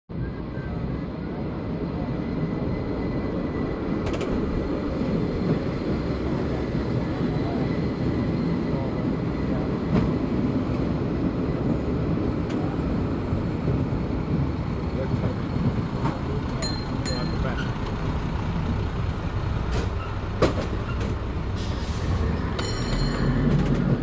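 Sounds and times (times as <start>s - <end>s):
cable car rumbling on track: 0.1s - 24.0s.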